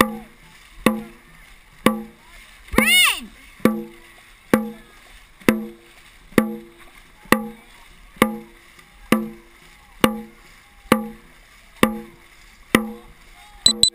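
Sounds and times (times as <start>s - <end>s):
drum beaten in steady rhythm: 0.0s - 13.1s.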